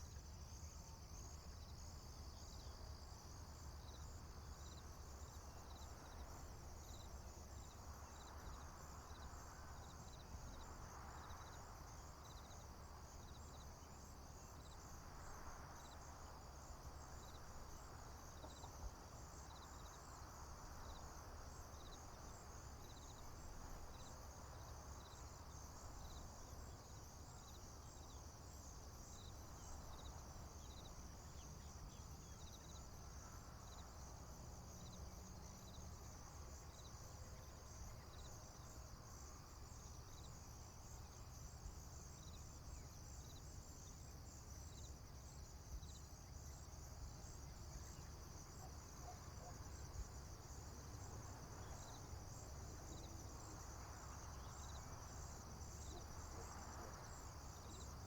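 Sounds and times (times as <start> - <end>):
short cricket chirp: 0.0 - 58.0
insects trilling: 11.3 - 58.0.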